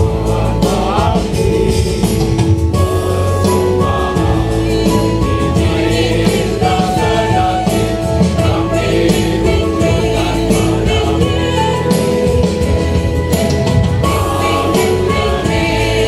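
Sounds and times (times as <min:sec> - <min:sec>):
choir singing a hymn: 0:00.0 - 0:16.0
instrumental accompaniment: 0:00.0 - 0:16.0.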